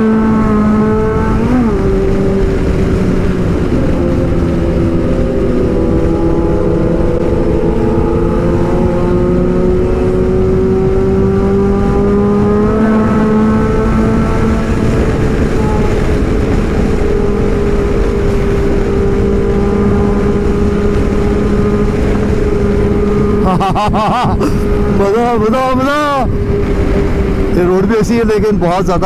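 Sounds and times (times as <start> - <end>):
motorcycle engine: 0.0 - 29.0
wind and road noise: 0.0 - 29.0.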